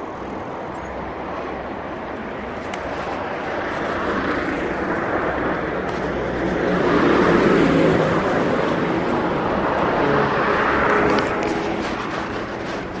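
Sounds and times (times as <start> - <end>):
vehicle engine and tyres passing: 0.0 - 13.0.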